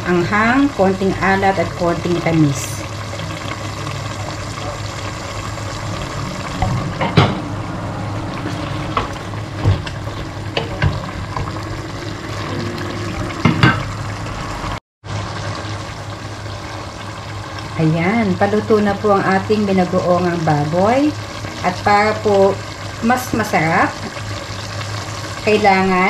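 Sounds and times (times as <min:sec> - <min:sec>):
sauce bubbling in a pot: 0:00.0 - 0:26.0.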